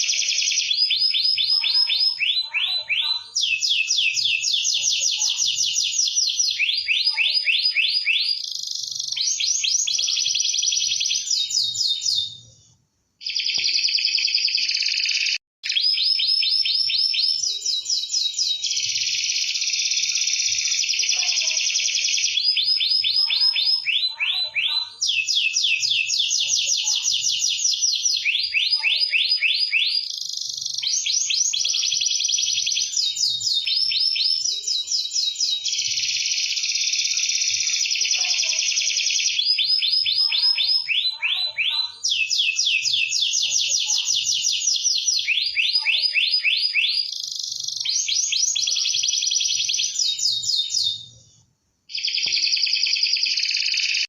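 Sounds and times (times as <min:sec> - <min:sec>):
canary singing trills: 0:00.0 - 0:12.6, 0:13.2 - 0:51.2, 0:51.9 - 0:54.0.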